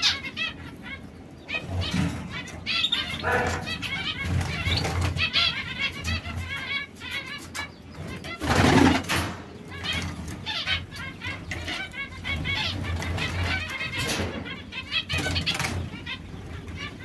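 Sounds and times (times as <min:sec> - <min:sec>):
canaries chirping: 0:00.0 - 0:17.0.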